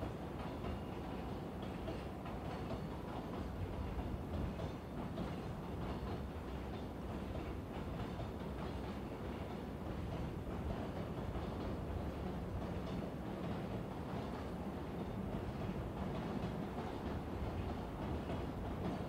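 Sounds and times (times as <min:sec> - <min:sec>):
freight train wagons rumbling: 0:00.0 - 0:19.0.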